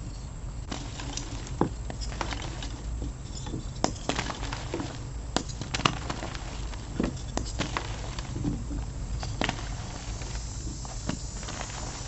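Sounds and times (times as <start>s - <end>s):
chalk crunching and crackling: 0.7s - 12.0s.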